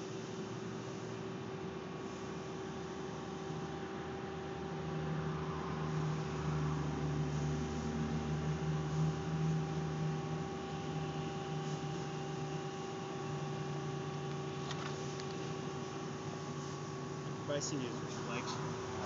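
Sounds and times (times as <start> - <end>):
hiss: 0.0 - 3.8, 5.6 - 19.0
steady machine hum: 0.0 - 19.0.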